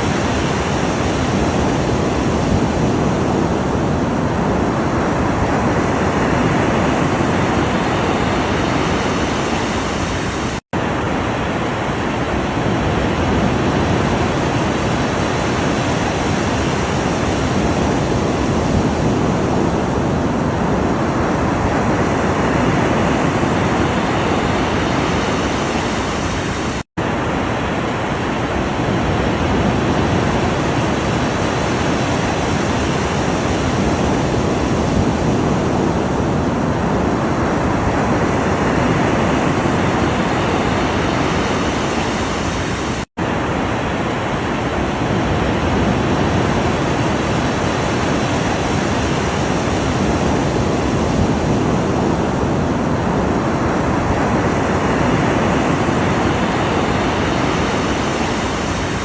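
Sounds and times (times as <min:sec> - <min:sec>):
ocean surf: 0:00.0 - 0:59.0.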